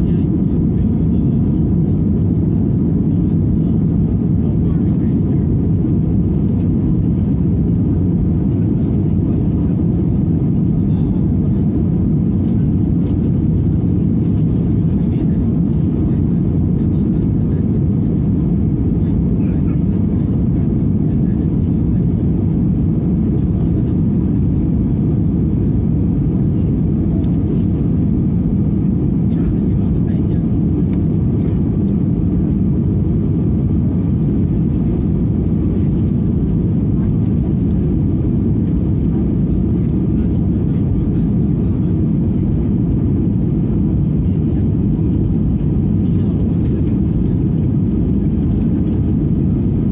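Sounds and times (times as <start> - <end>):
airliner cabin engine drone: 0.0 - 49.9.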